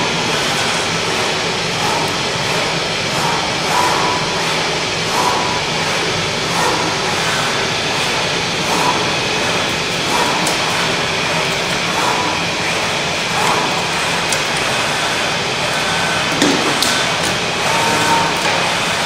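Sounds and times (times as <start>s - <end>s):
cutting machine drone: 0.0s - 19.0s.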